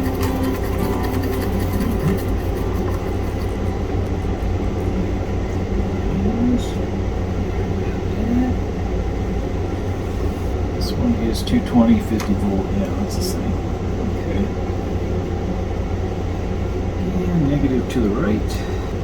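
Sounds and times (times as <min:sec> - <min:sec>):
low mechanical rumble: 0:00.0 - 0:19.0.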